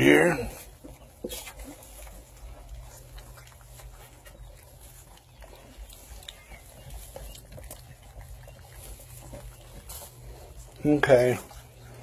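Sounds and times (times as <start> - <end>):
puppies lapping food: 0.0 - 12.0.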